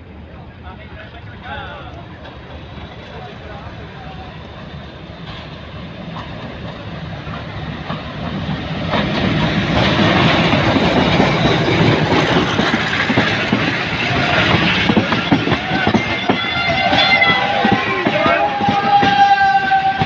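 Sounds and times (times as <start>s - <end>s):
diesel locomotive passing: 0.0s - 20.0s
wheels clacking over rails: 1.0s - 20.0s.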